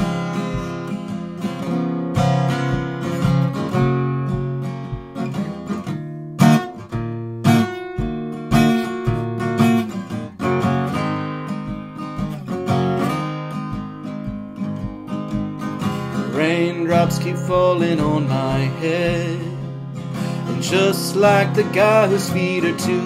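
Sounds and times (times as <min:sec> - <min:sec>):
acoustic guitar playing chords: 0:00.0 - 0:23.0.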